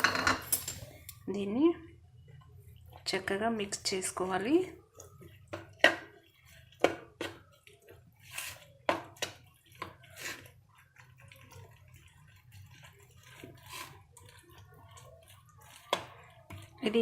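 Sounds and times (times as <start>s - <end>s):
spoon mixing wet food: 1.8s - 17.0s.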